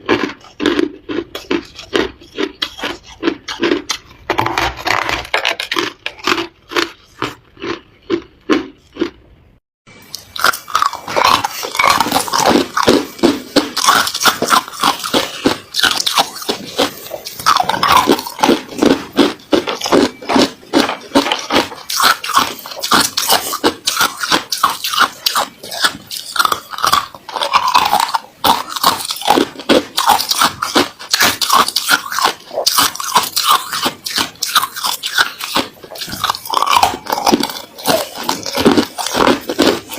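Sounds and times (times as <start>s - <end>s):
ice being chewed: 0.0s - 9.3s, 10.0s - 39.9s.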